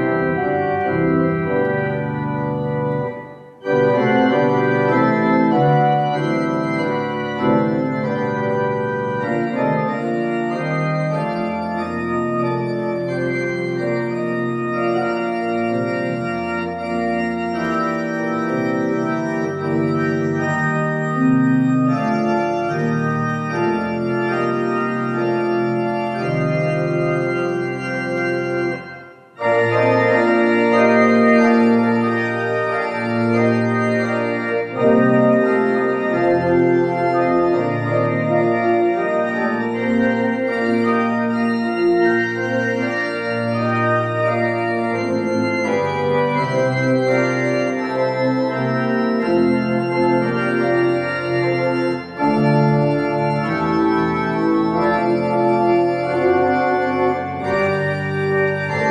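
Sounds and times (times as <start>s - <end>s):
organ playing slow chords: 0.0s - 58.9s.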